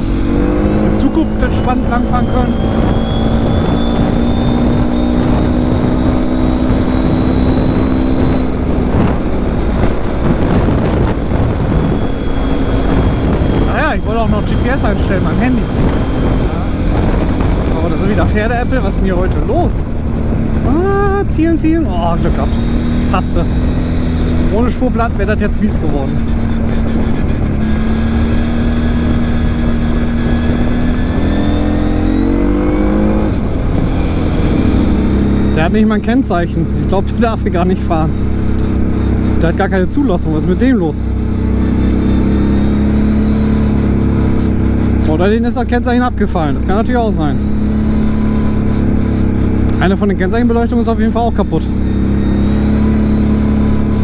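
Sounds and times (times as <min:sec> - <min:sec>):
quad engine running: 0:00.0 - 0:54.0
wind rumble on microphone: 0:00.0 - 0:54.0.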